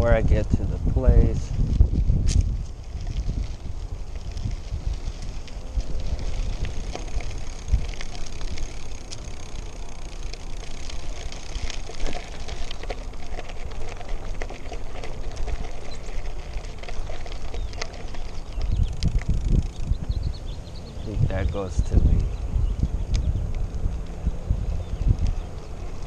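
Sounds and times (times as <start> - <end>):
wind on microphone: 0.0 - 9.4, 10.8 - 26.0
bike clicks and rattles: 0.0 - 26.0
bike tyres rolling: 0.0 - 26.0.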